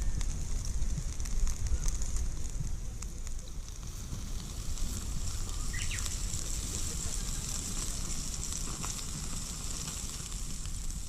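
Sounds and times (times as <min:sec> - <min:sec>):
campfire crackling and popping: 0:00.0 - 0:11.0
steady high hiss: 0:00.0 - 0:11.0.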